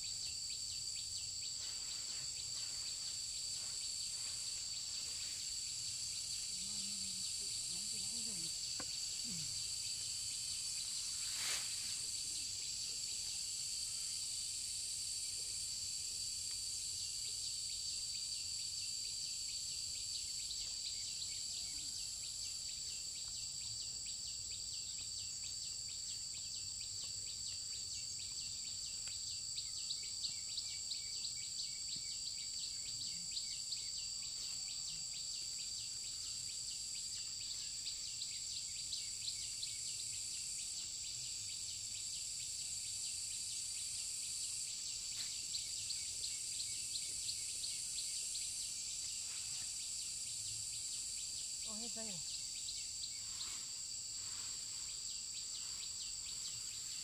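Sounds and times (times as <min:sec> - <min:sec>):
fast pulsing insect trill: 0:00.0 - 0:57.0
high-pitched insect chorus: 0:00.0 - 0:57.0.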